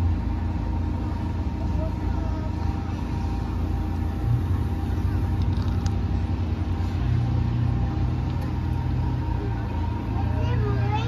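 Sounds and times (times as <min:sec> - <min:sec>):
boat motor hum and rumble: 0:00.0 - 0:11.0
faint steady whine: 0:00.0 - 0:11.0.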